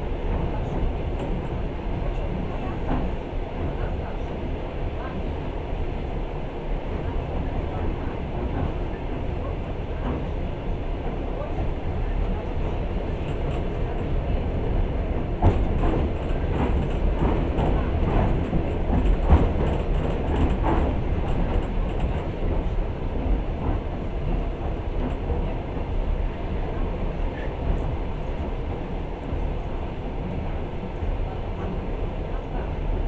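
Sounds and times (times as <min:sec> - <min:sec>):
train rumbling inside carriage: 0:00.0 - 0:33.0.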